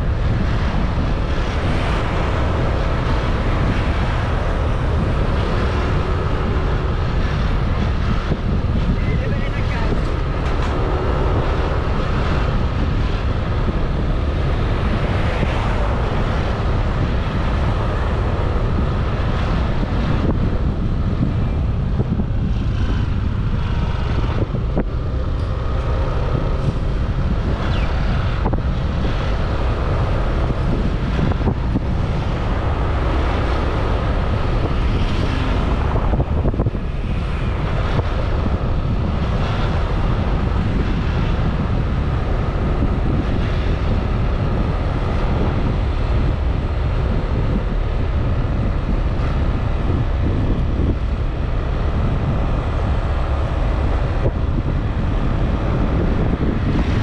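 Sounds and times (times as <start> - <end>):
road and traffic noise: 0.0 - 57.0
wind rumble on microphone: 0.0 - 57.0.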